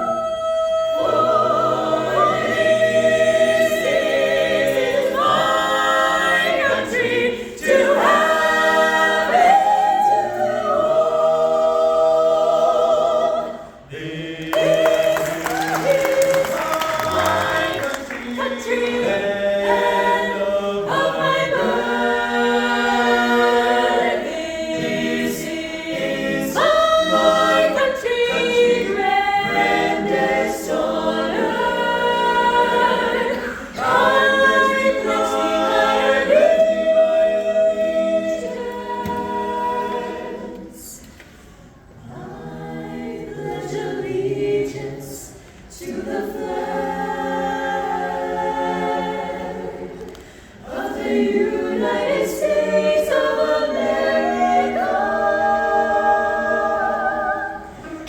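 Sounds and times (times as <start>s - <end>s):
a cappella vocal ensemble singing: 0.0s - 58.0s.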